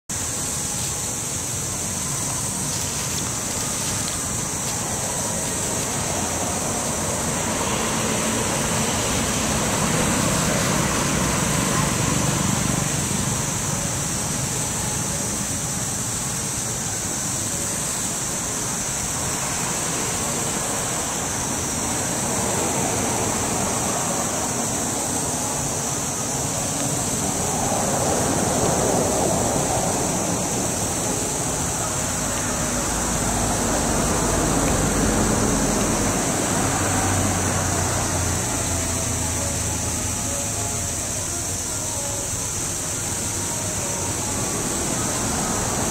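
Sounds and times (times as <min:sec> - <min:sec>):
high-pitched hiss: 0:00.1 - 0:45.9
outdoor rushing noise: 0:00.1 - 0:45.9.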